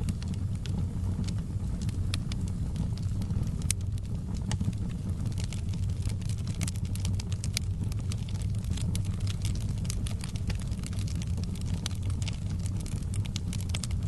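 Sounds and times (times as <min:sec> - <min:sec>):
fire crackling in fireplace: 0:00.0 - 0:14.0.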